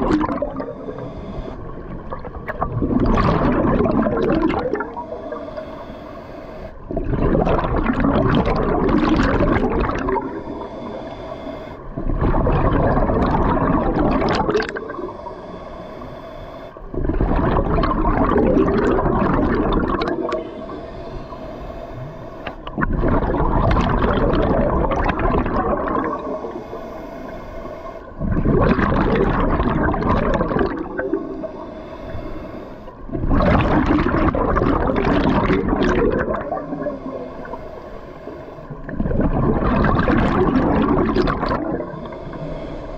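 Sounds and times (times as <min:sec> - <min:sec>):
exhaled bubbles underwater: 0:00.0 - 0:16.1, 0:16.7 - 0:42.9
diver breathing through regulator: 0:00.2 - 0:01.9, 0:03.5 - 0:06.9, 0:09.0 - 0:12.2, 0:13.6 - 0:22.7, 0:23.9 - 0:40.1, 0:41.6 - 0:42.9.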